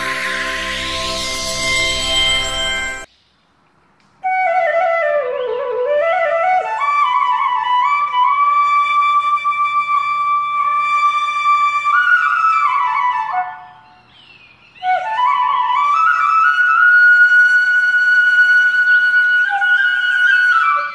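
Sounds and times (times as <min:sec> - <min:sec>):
solo flute melody: 0:00.0 - 0:03.1, 0:04.2 - 0:14.1, 0:14.8 - 0:20.9.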